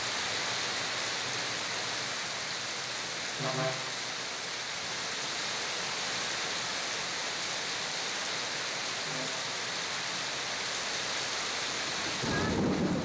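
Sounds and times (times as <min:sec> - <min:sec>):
heavy rain on flooded road: 0:00.0 - 0:13.0.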